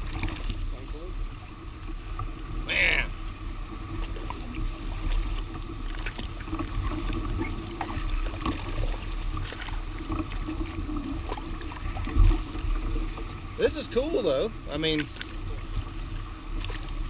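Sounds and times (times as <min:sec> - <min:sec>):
kayak paddle strokes: 0:00.0 - 0:17.0
leaves brushing a hull: 0:00.0 - 0:17.0.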